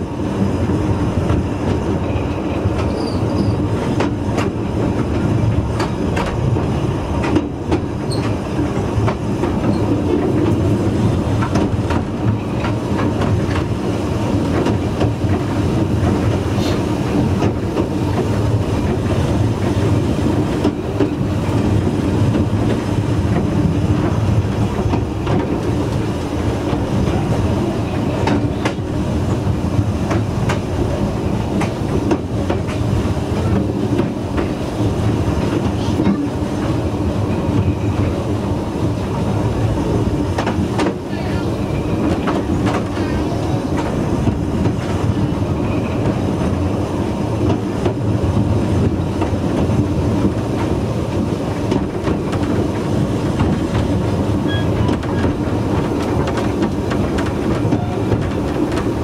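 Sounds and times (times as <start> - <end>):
rail joint clicks: 0.0 - 59.0
train wheels rumbling on rail: 0.0 - 59.0.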